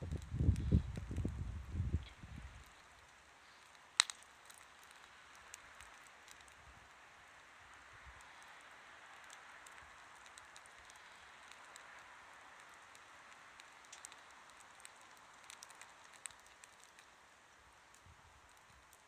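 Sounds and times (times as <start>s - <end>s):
wood fire crackling and hissing: 0.0s - 19.0s.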